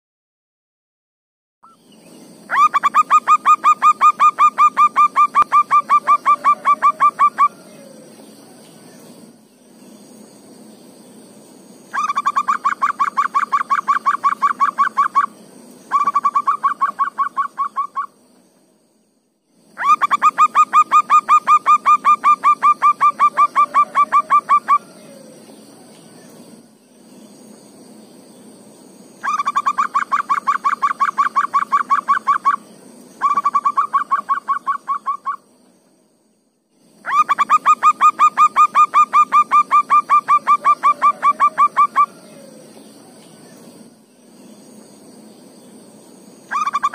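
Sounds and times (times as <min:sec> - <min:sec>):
dove calling in pulsed notes: 0:01.6 - 0:18.5, 0:19.5 - 0:35.8, 0:36.8 - 0:46.9
faint steady hum: 0:01.6 - 0:46.9
high steady hiss: 0:01.7 - 0:46.9.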